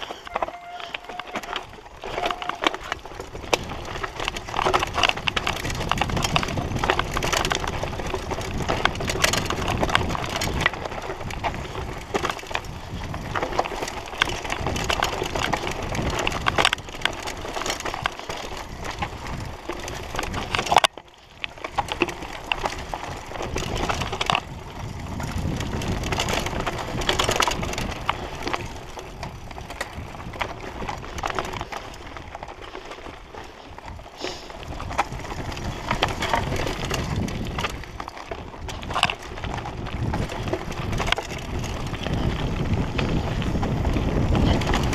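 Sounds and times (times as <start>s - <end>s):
bike rattling over stony trail: 0.0s - 44.9s
tyres crunching on gravel: 0.0s - 44.9s.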